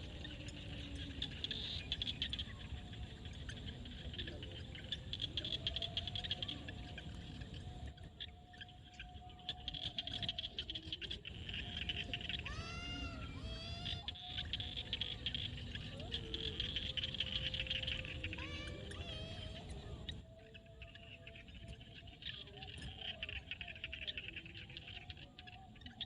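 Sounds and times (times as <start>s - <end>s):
frogs calling: 0.0s - 26.0s.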